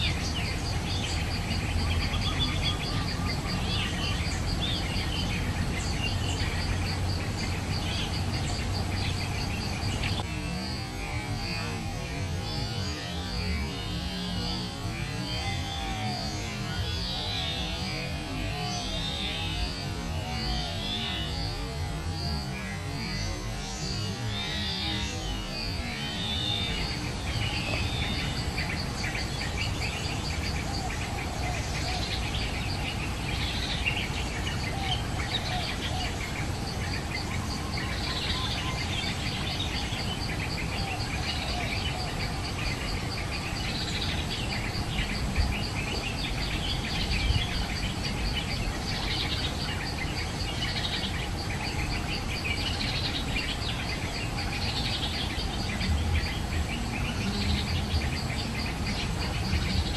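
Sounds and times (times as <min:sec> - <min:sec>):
pulsing insect trill: 0:00.0 - 0:59.9
small birds calling: 0:00.0 - 0:59.9.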